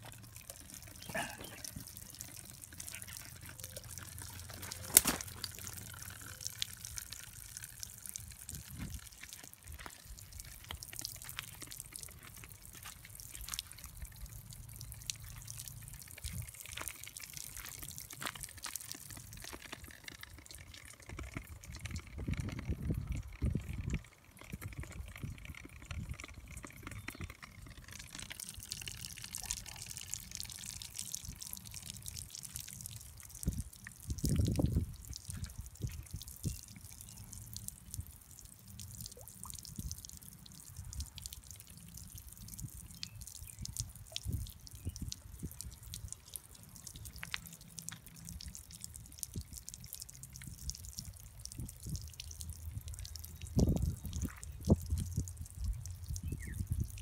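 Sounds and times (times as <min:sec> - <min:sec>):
water drips and splashes: 0:00.0 - 0:57.0.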